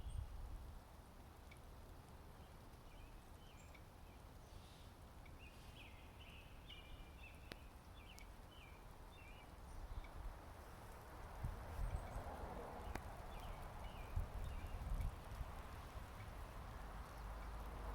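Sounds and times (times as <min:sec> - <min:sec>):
faint birds chirping: 0:01.4 - 0:11.0, 0:11.7 - 0:17.9.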